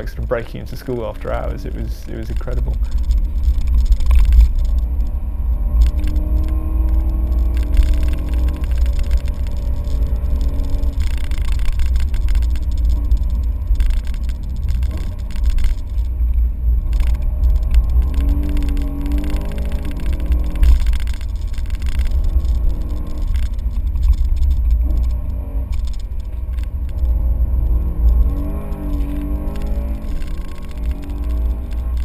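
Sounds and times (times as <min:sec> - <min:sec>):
car engine revving: 0:00.0 - 0:32.0
road and wind rumble: 0:00.0 - 0:32.0.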